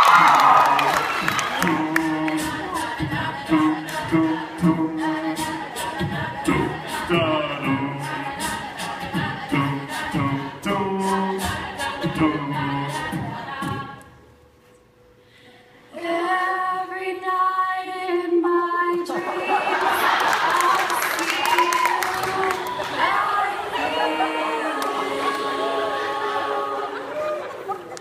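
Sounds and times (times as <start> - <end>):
a cappella group singing: 0.0 - 14.3, 15.9 - 21.2, 21.9 - 27.5.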